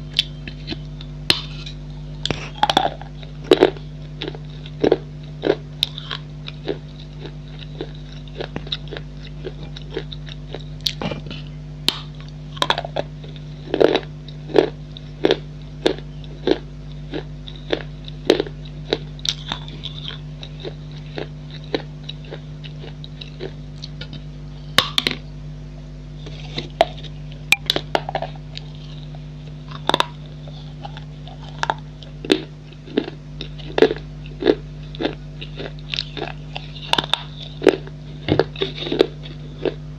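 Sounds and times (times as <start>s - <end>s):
steady low hum: 0.0s - 39.9s
clay pieces crunched by chewing: 0.1s - 25.2s, 26.2s - 39.8s.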